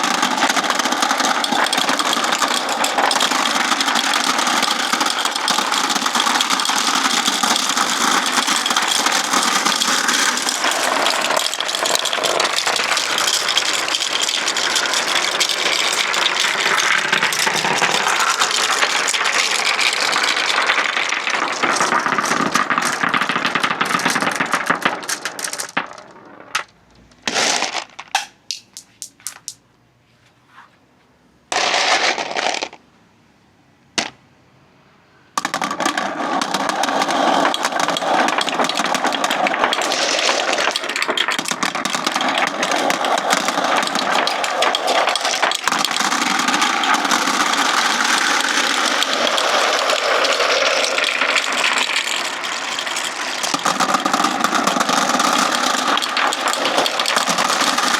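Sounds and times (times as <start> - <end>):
marbles clattering down track: 0.0 - 29.6, 31.5 - 32.8, 35.4 - 57.9.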